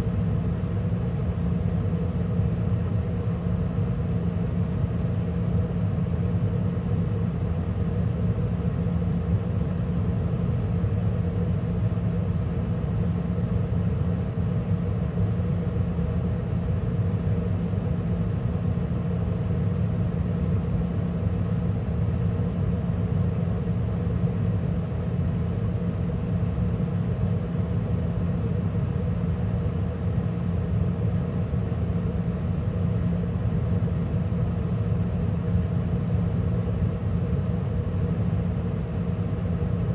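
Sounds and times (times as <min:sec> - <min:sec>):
gas furnace humming: 0:00.0 - 0:39.9.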